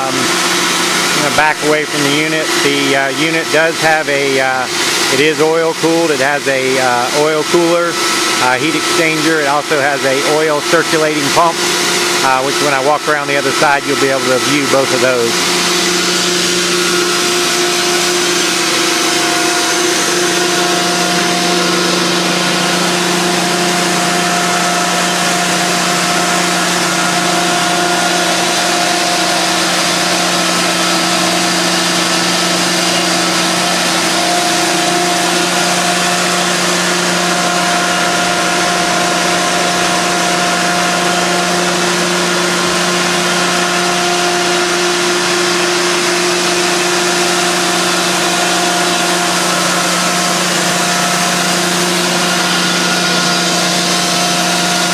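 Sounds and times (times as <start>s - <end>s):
extraction unit humming: 0.0s - 54.9s.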